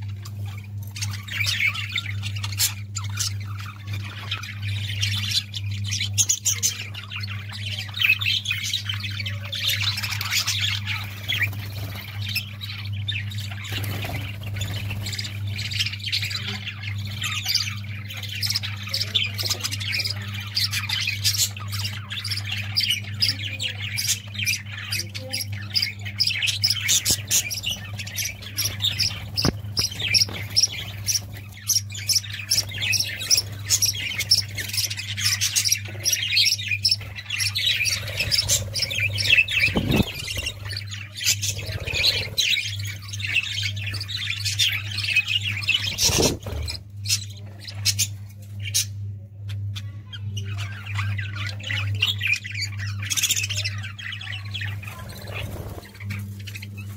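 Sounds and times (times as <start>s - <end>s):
budgerigars chattering: 0.0s - 56.9s
steady low hum: 0.0s - 56.9s.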